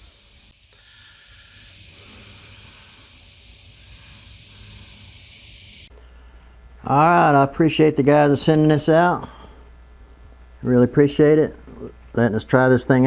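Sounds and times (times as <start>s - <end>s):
microphone hiss: 0.0s - 13.0s.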